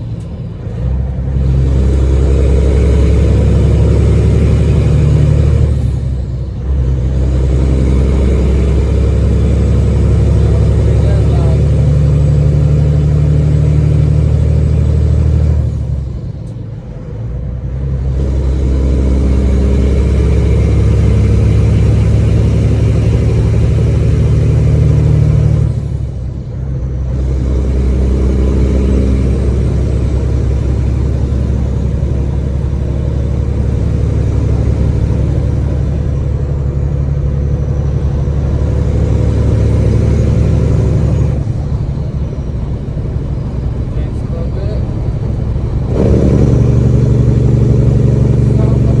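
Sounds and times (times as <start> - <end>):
diesel truck engine droning: 0.0 - 49.0.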